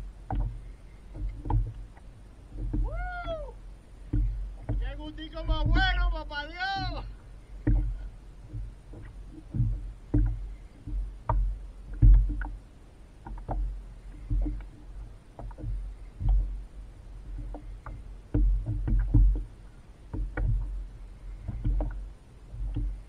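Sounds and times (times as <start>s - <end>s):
low rumble: 0.0s - 23.0s
water slapping against hull: 0.0s - 23.0s.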